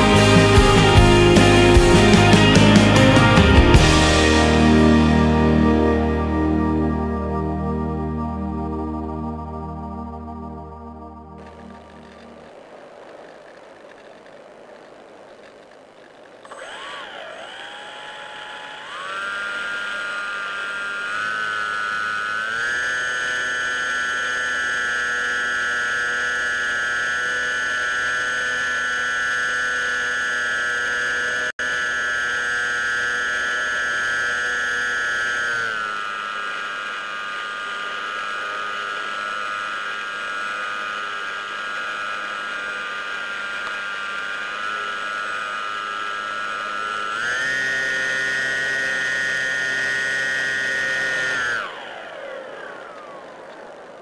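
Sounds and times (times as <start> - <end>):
model airplane motor whining: 0.0 - 54.0.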